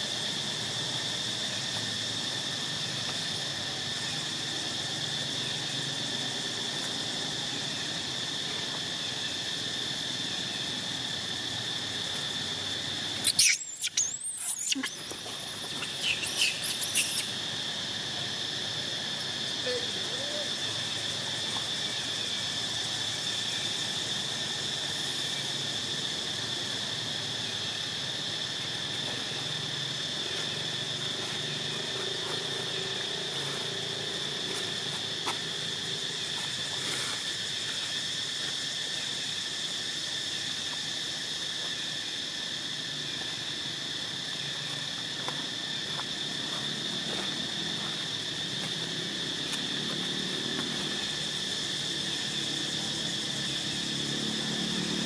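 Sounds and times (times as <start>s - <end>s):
fainter low insect tone: 0.0s - 55.0s
insects chirring: 0.0s - 55.0s.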